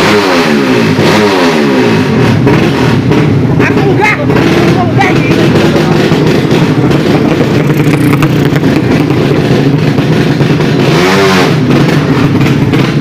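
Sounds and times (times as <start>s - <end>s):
motorcycle engine running loud: 0.0s - 13.0s.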